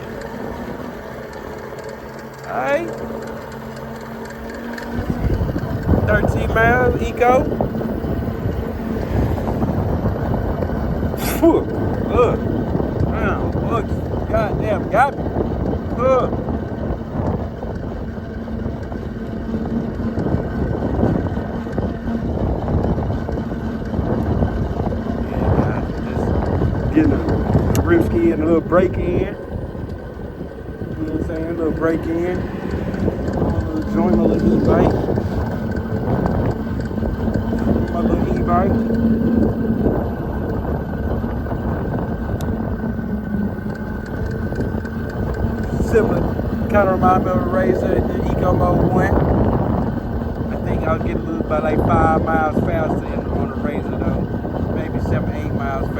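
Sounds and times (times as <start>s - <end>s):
electric motor whine: 0.0s - 55.9s
wind rushing over microphone: 0.0s - 55.9s.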